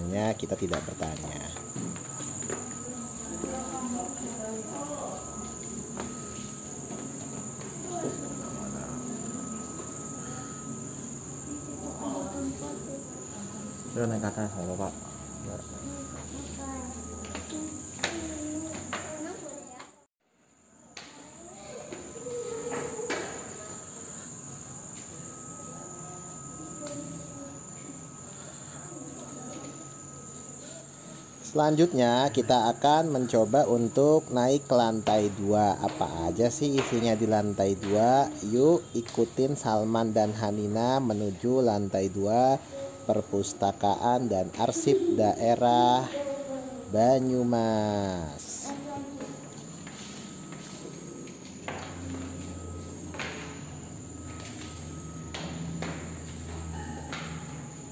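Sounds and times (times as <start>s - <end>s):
high-pitched whine: 0.0s - 19.8s, 21.2s - 57.9s
high-pitched insect-like buzz: 0.0s - 20.0s, 21.0s - 57.9s
murmur of room noise: 0.0s - 57.9s.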